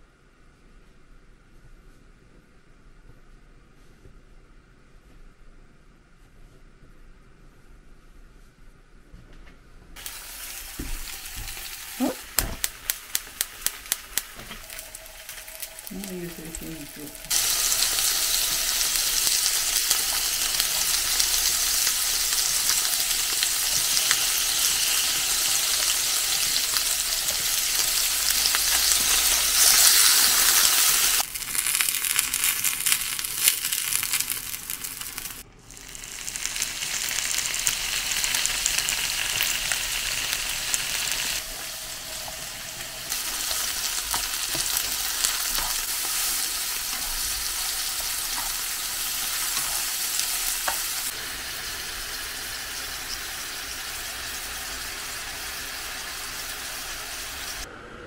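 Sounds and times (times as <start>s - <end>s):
food sizzling in a pan: 10.0s - 57.7s.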